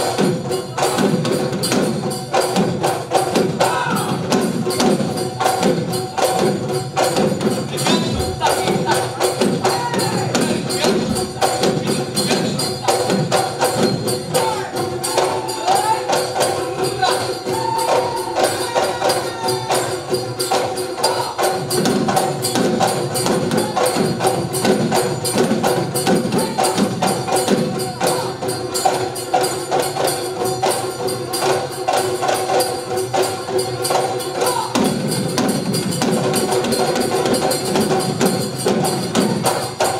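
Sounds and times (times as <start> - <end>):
drums beating fast rhythm: 0.0 - 39.9
jingling metal percussion: 0.0 - 39.9.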